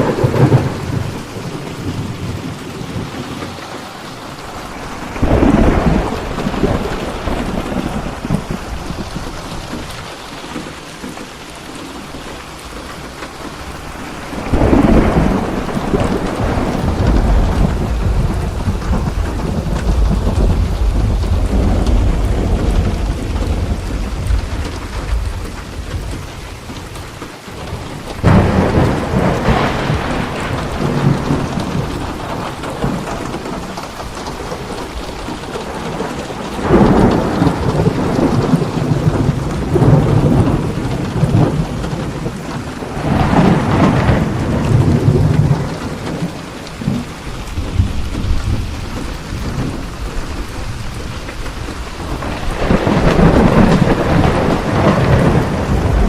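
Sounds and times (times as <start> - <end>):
steady rain: 0.0 - 56.0
thunder cracking and rumbling: 0.0 - 56.0.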